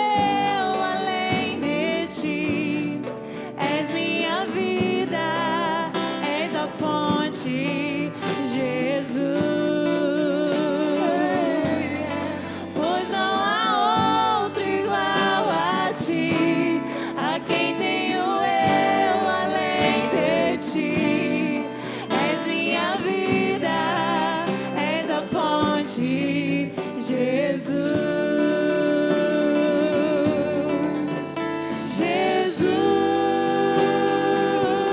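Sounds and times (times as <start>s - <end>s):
acoustic instrument accompaniment: 0.0s - 34.9s
person singing with vibrato: 0.0s - 34.9s.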